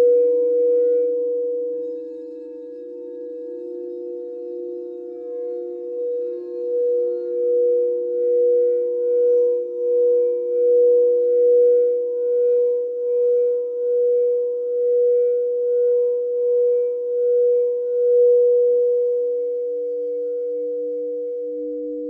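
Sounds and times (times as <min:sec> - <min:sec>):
crystal singing bowls ringing: 0:00.0 - 0:22.0.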